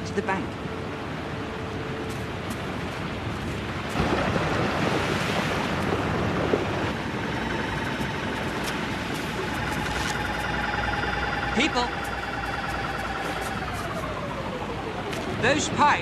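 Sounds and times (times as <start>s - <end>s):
faint steady tones: 0.0s - 3.9s, 6.8s - 16.0s.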